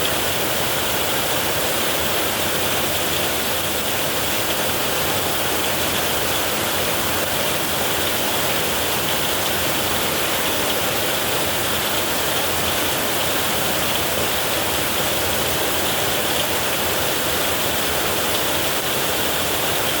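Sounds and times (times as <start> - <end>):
heavy rain on a tin roof: 0.0 - 20.0.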